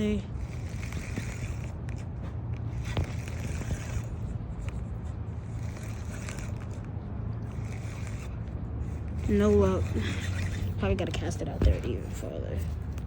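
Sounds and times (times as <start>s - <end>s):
fishing reel whirring: 0.0s - 11.5s.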